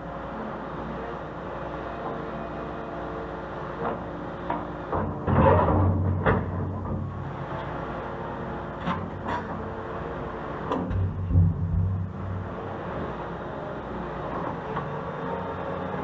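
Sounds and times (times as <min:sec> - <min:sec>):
construction machinery engine running: 0:00.0 - 0:16.0.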